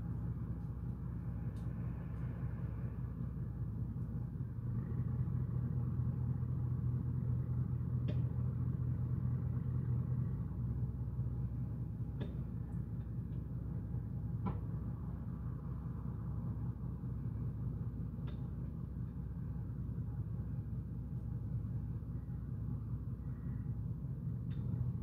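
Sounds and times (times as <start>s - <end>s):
distant engine rumble: 0.0s - 25.0s.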